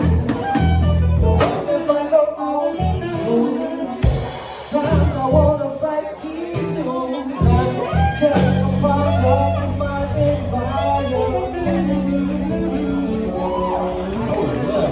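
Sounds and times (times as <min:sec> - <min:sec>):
heavy bass notes: 0:00.0 - 0:01.8, 0:02.6 - 0:05.8, 0:06.7 - 0:14.9
guitar: 0:00.0 - 0:14.9
person singing: 0:00.0 - 0:14.9.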